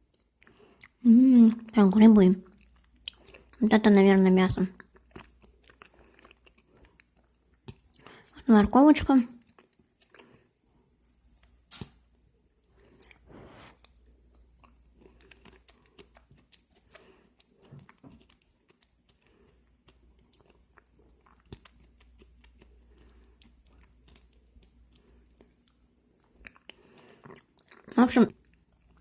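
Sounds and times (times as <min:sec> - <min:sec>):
person chewing: 0:00.0 - 0:08.7, 0:09.4 - 0:11.6, 0:12.5 - 0:29.0.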